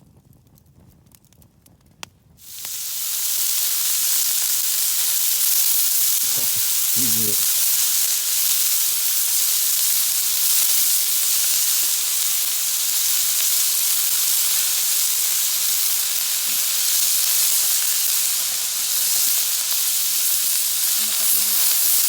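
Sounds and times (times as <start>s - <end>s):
food sizzling on a griddle: 2.4s - 22.0s.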